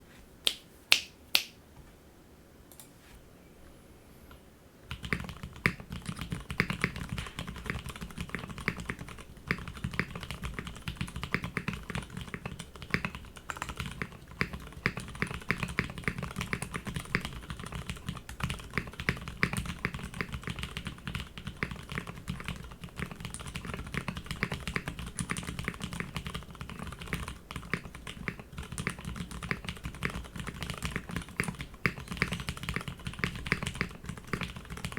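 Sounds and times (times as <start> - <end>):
mechanical keyboard typing: 4.9 - 34.9.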